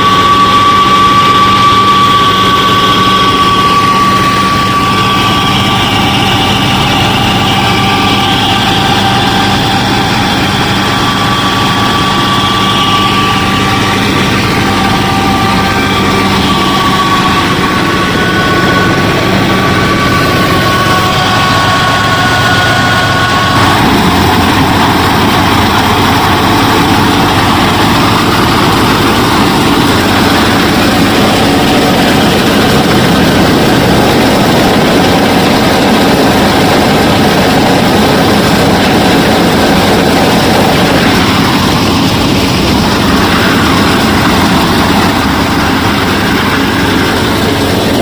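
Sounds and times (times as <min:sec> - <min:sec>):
miniature harvester machine running: 0:00.0 - 0:48.0
steady whine: 0:00.0 - 0:48.0.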